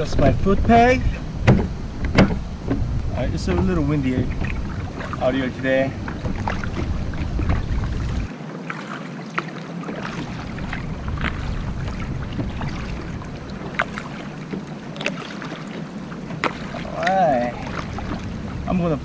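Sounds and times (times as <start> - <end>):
wind rumbling on microphone: 0.0 - 8.3, 10.0 - 19.0
water splashes and drips: 3.1 - 18.8.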